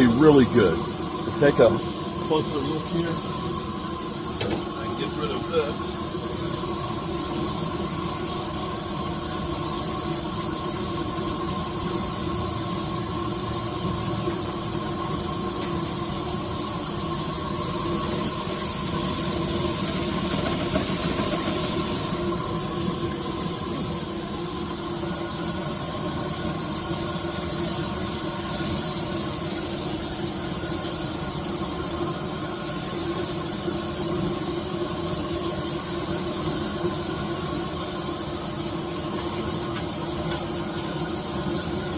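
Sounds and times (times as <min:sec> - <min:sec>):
food sizzling on a grill: 0:00.0 - 0:41.9
mechanical hum: 0:00.0 - 0:41.9.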